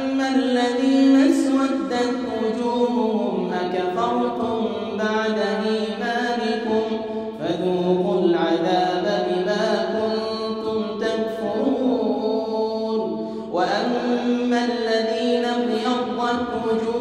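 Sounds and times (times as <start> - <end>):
man chanting a recitation: 0.0 - 17.0.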